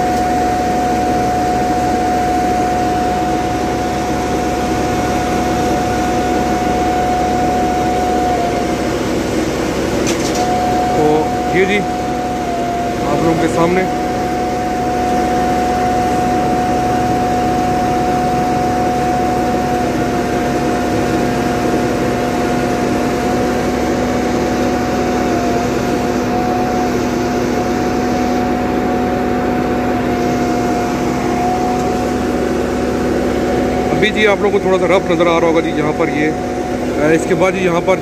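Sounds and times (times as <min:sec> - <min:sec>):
asphalt paver engine drone: 0:00.0 - 0:38.0
steady machine whine: 0:00.0 - 0:38.0.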